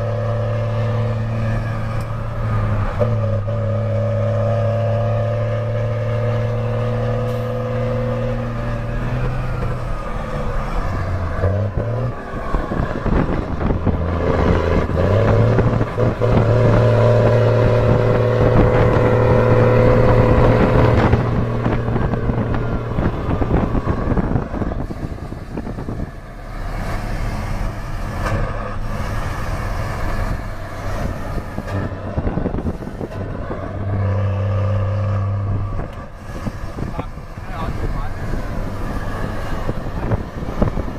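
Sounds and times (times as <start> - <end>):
diesel truck engine rumbling: 0.0 - 40.9.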